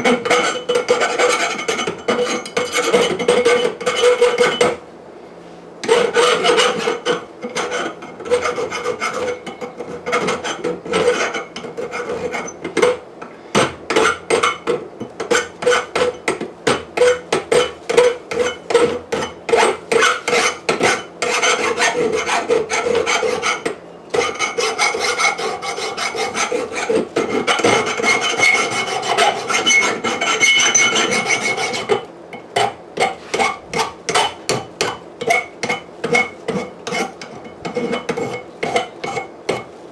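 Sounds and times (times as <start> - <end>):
abrasive tool rasping on steel: 0.0 - 4.7, 5.8 - 13.0, 13.9 - 39.7.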